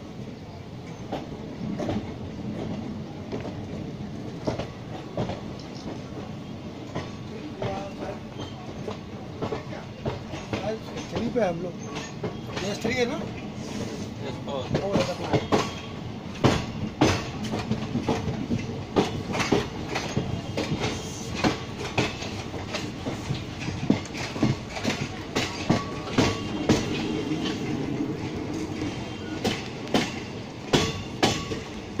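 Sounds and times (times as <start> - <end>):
train rumble: 0.0 - 32.0
train wheels clattering over joints: 0.9 - 32.0.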